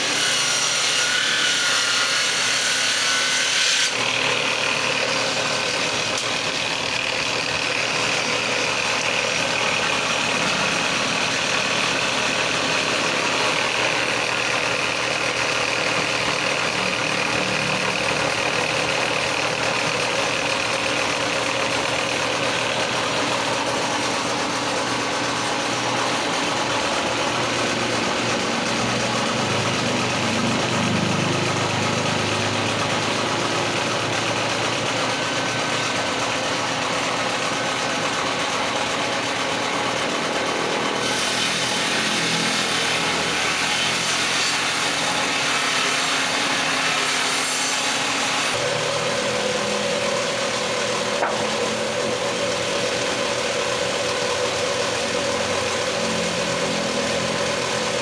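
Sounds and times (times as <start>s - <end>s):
motor running: 0.0s - 58.0s.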